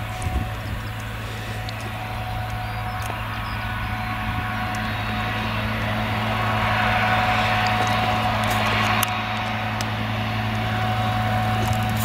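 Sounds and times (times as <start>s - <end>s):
harvester engine drone: 0.0s - 12.0s
high whine: 0.0s - 12.0s.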